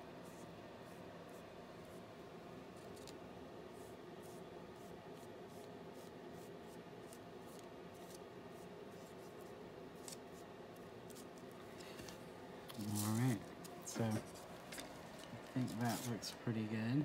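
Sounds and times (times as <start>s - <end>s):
paintbrush scratchy brushing: 0.0s - 2.1s, 2.7s - 11.4s, 12.8s - 16.3s
low room hum: 0.0s - 17.0s.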